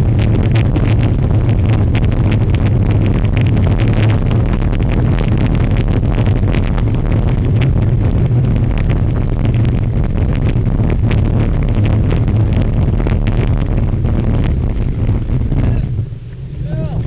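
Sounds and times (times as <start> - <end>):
bike rattling over rough ground: 0.0 - 17.0
wind rumble on microphone: 0.0 - 17.0.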